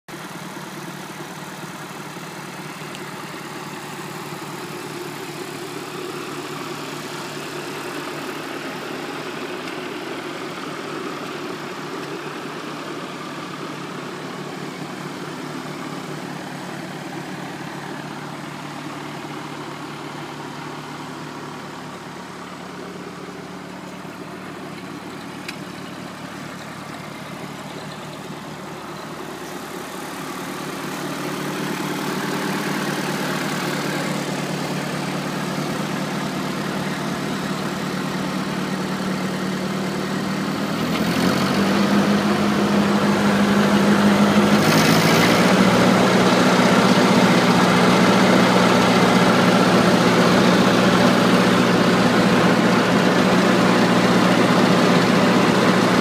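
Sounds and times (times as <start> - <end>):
tractor engine idling: 0.1 - 56.0.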